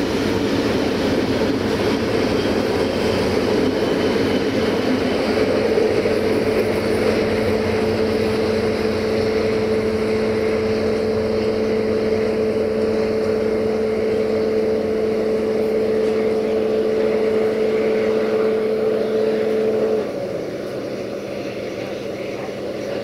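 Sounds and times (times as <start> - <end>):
locomotive engine hum: 0.0 - 23.0
train rolling and wind noise: 0.0 - 23.0.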